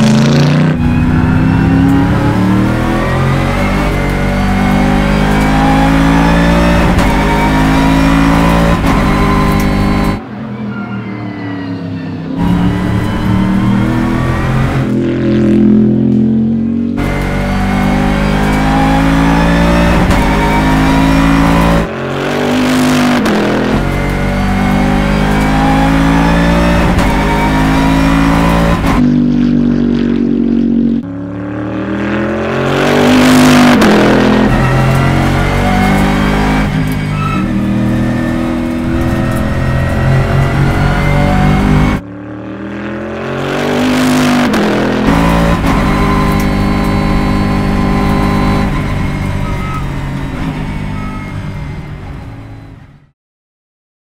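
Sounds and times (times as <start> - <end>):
race car engine accelerating: 0.0 - 10.7, 11.3 - 52.9.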